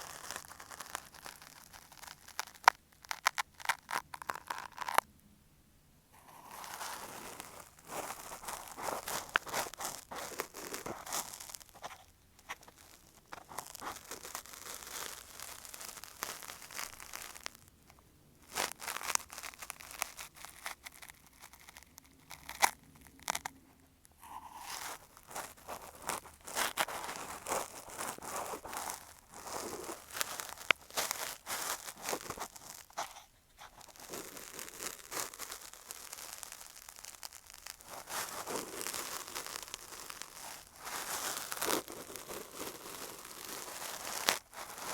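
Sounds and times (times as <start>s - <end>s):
cotton swab scratching microphone: 6.2s - 17.6s, 18.4s - 44.9s.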